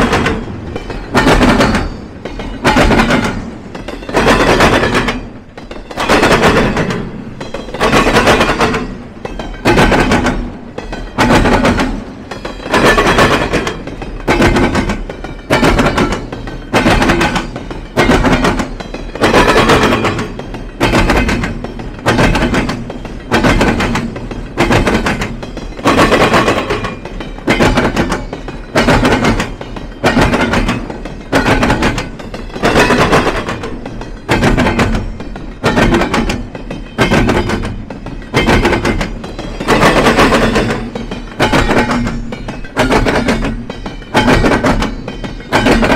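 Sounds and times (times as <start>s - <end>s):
train wheels clanking over crossing: 0.0s - 45.9s.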